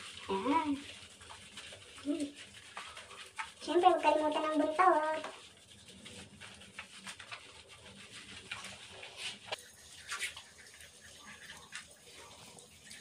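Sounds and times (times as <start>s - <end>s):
hands scrubbing wet soapy fur: 0.0s - 13.0s.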